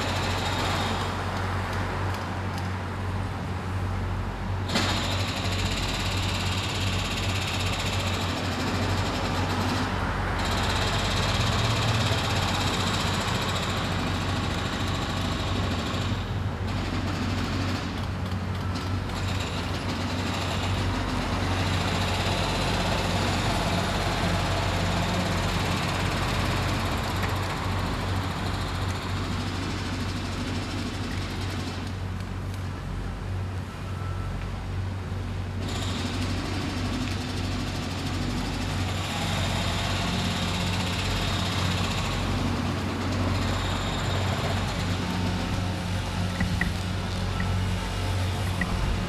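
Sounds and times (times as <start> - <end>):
large engine rumbling: 0.0 - 49.0
street noise: 0.0 - 49.0.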